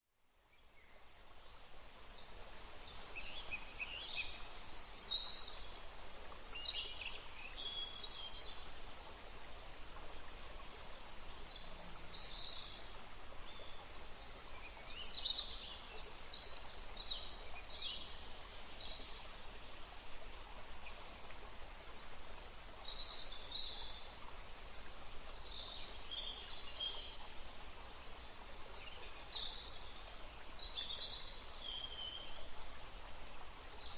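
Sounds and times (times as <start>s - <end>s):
steady background hiss: 0.3s - 33.9s.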